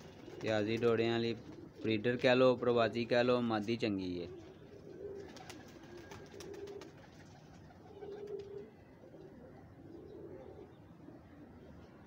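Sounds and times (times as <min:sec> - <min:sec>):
pigeons cooing: 0:00.0 - 0:02.2, 0:04.3 - 0:12.0.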